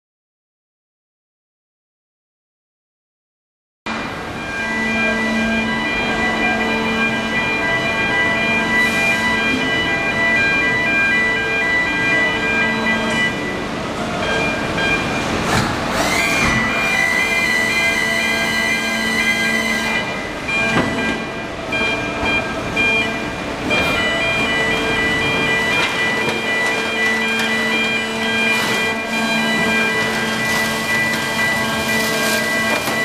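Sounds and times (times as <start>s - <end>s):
machinery hum and whine: 3.9s - 33.0s.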